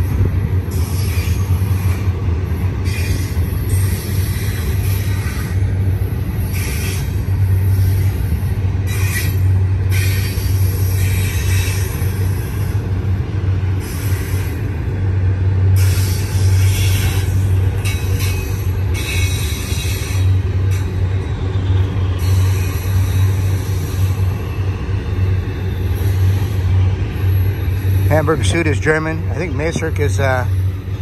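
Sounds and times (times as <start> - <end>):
high-pitched wheel-on-rail noise: 0.0 - 31.0
train railcars rumbling past: 0.0 - 31.0.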